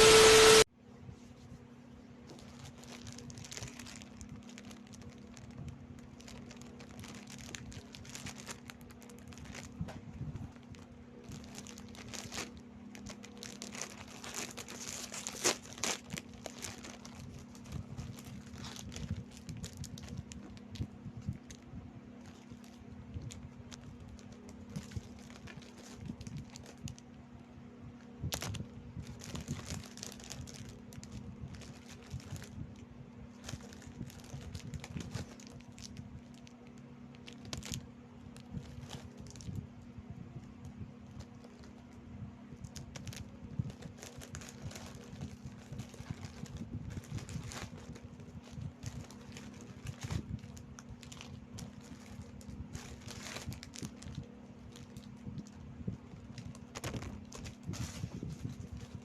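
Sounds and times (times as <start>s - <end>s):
steady low hum: 0.0s - 59.0s
crackers being crunched: 2.2s - 21.6s, 22.2s - 27.1s, 28.2s - 39.6s, 40.4s - 59.0s
plastic wrappers crinkling: 2.2s - 27.2s, 28.1s - 39.7s, 40.4s - 59.0s.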